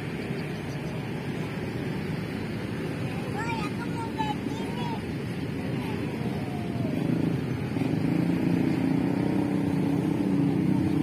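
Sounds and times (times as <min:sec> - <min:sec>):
vehicle engine approaching: 0:00.0 - 0:11.0.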